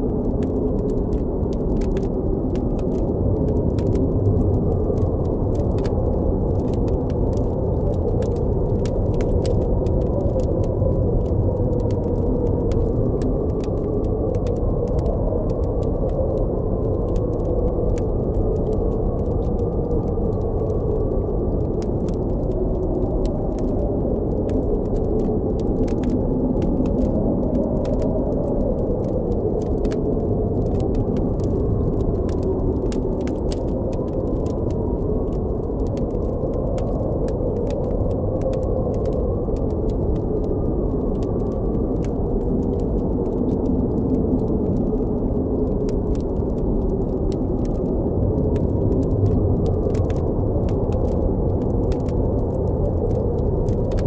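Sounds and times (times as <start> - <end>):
blizzard wind moaning: 0.0 - 54.0
campfire crackles and pops: 0.0 - 54.0.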